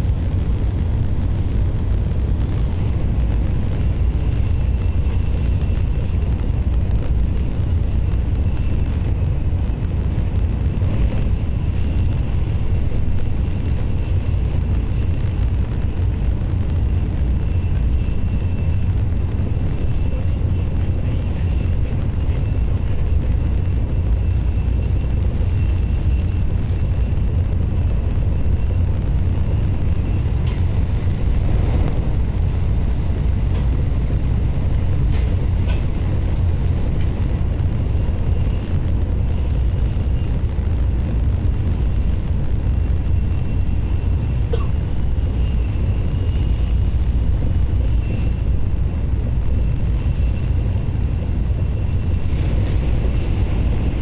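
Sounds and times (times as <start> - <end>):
faint high whine: 0.0 - 54.0
train cabin low rumble: 0.0 - 54.0.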